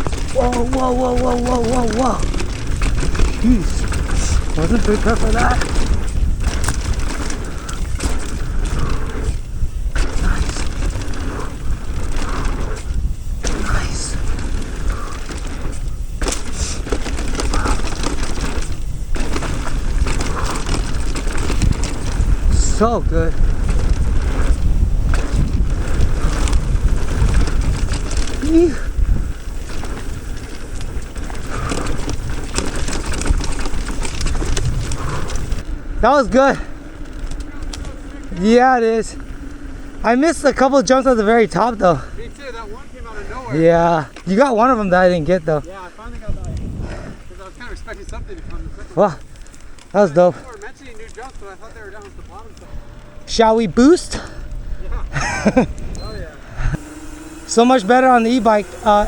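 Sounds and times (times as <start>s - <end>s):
bike chain rattling: 0.0s - 59.0s
tyres on dirt: 0.0s - 59.0s
wind rumbling on microphone: 0.0s - 59.0s.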